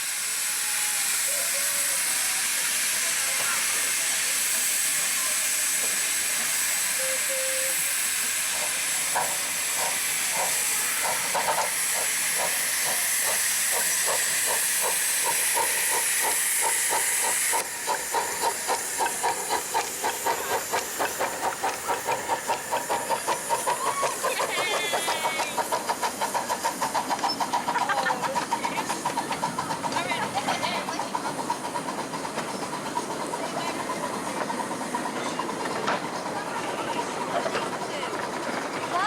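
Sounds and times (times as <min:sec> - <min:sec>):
steam hiss: 0:00.0 - 0:39.0
steam locomotive exhaust beats: 0:00.0 - 0:39.0.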